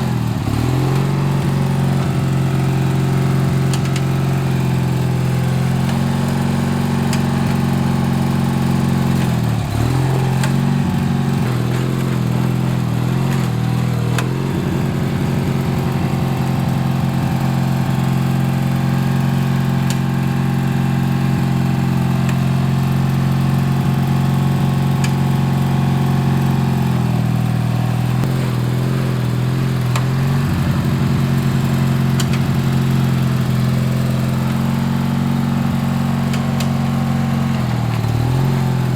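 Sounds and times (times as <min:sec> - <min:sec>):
lawn tractor engine running: 0:00.0 - 0:38.9.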